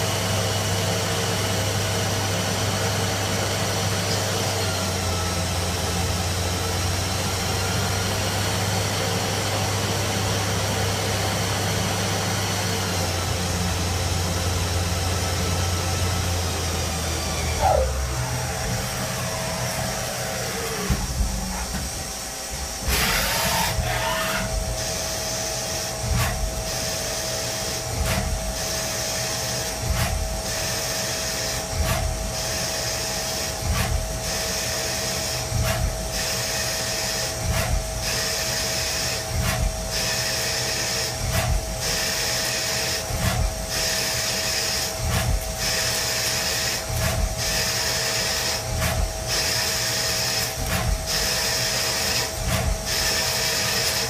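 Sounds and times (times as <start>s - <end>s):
machine whine: 0.0s - 54.0s.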